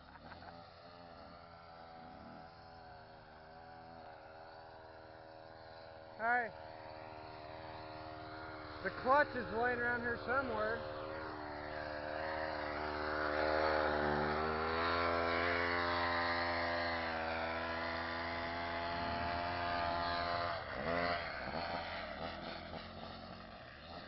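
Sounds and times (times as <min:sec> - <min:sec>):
chainsaw engine droning: 0:00.0 - 0:24.0.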